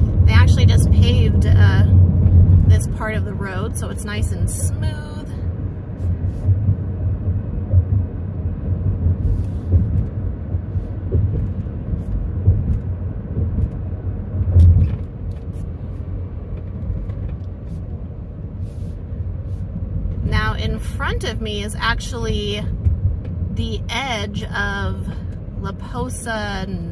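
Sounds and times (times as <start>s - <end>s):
road and engine rumble in car: 0.0s - 26.9s.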